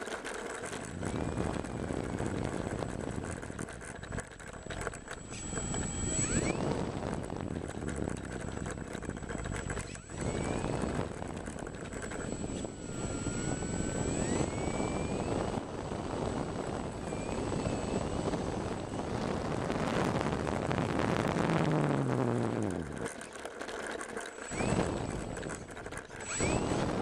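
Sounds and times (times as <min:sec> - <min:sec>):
steady rushing noise: 0:00.0 - 0:23.2, 0:23.9 - 0:27.0
model airplane motor whine: 0:00.0 - 0:27.0.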